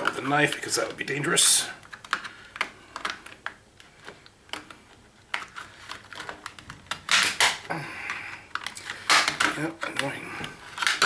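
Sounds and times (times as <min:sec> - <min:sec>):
plastic clicks and creaks: 0:01.8 - 0:11.0.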